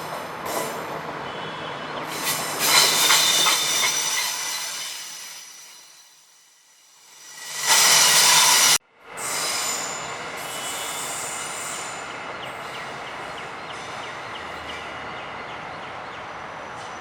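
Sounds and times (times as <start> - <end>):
train brakes squealing: 0.0 - 15.0, 16.3 - 17.0
rolling train rumble: 0.0 - 17.0.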